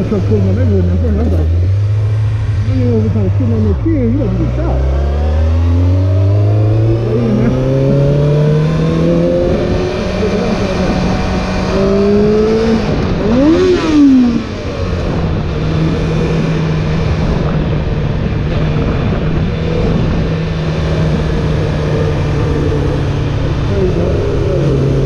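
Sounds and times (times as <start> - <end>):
motorcycle engine revving: 0.0 - 25.0
wind rushing over microphone: 0.0 - 25.0.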